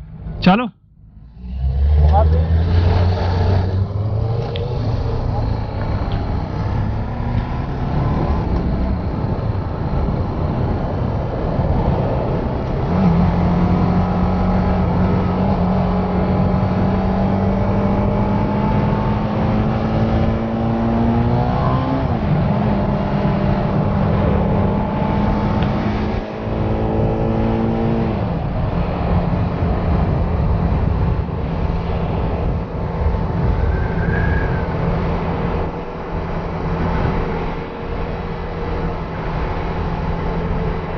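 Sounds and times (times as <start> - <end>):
motorcycle engine accelerating: 0.0 - 40.9
steady rushing noise: 0.0 - 40.9.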